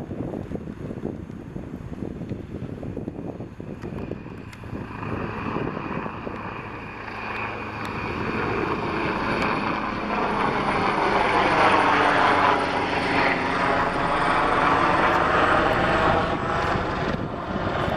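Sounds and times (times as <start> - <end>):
helicopter passing low overhead: 0.0 - 17.9.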